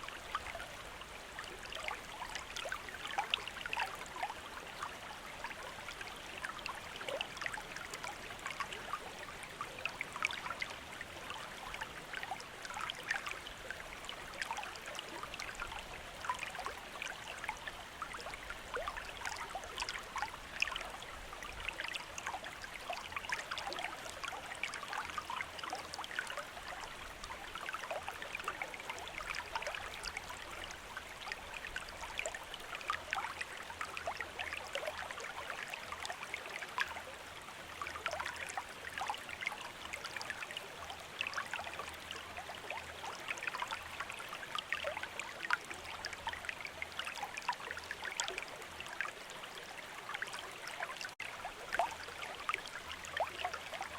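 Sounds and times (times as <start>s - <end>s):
stream running over stones: 0.0s - 53.9s.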